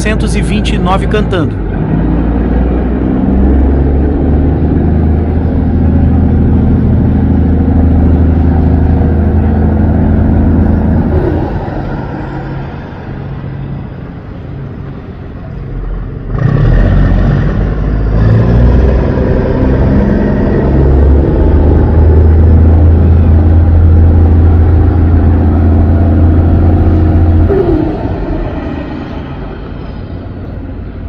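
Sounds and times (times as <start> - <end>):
boat diesel engine running: 0.0 - 31.0.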